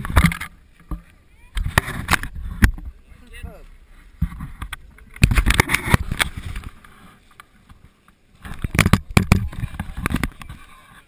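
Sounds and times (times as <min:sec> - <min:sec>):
handling rumble on camera microphone: 0:00.0 - 0:11.0.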